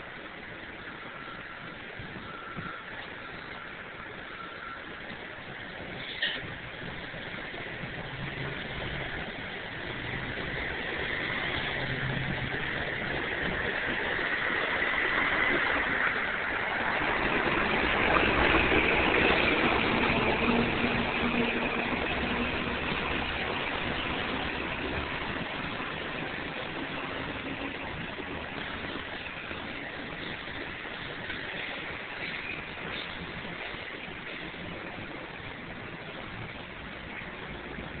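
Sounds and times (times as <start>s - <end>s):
engine and traffic noise: 0.0s - 38.0s.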